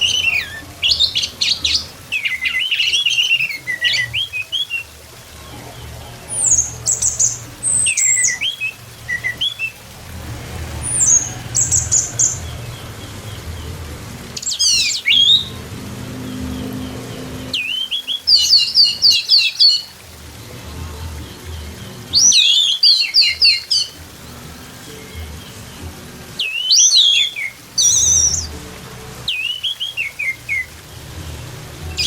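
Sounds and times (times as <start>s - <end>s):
thrush singing: 0.0s - 32.0s.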